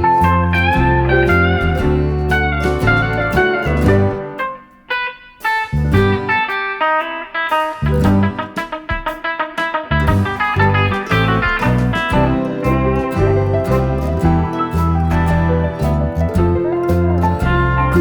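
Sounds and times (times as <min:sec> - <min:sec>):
plucked guitar notes: 0:00.0 - 0:18.0
slide guitar music: 0:00.0 - 0:18.0.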